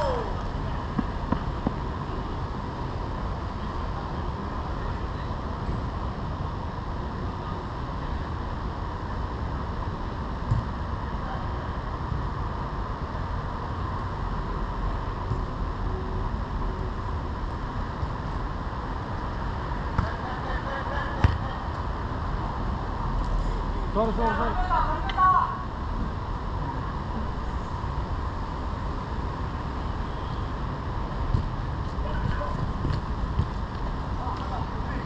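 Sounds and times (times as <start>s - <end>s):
outdoor rumble and hiss: 0.0s - 35.0s.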